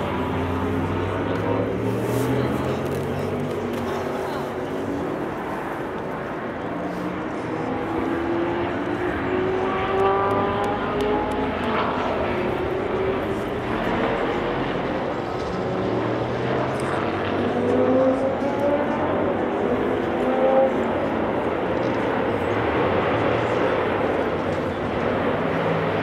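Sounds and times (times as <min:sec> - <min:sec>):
racing car engines accelerating: 0:00.0 - 0:26.0.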